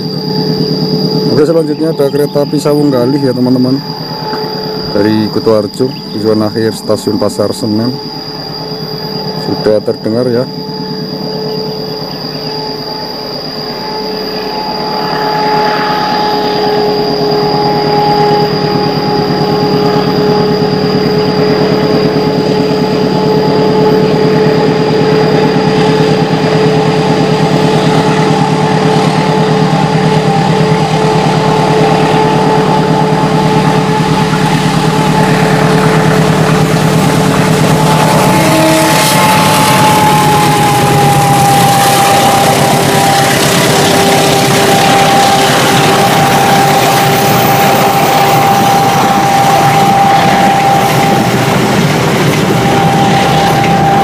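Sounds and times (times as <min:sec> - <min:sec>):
locomotive engine whining: 0:00.0 - 0:54.0.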